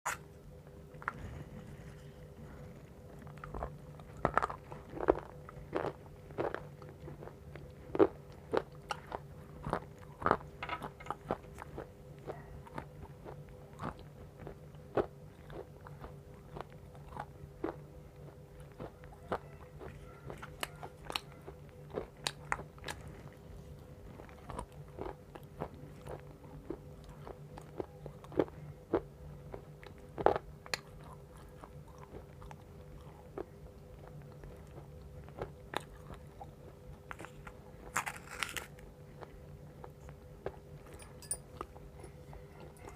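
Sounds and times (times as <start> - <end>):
steady low hum: 0.1 - 42.9
clay chunks crunching in mouth: 1.0 - 42.9.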